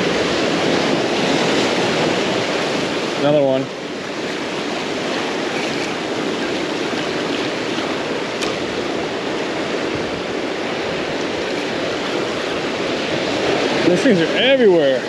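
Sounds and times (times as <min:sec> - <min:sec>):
ocean surf washing ashore: 0:00.0 - 0:15.0.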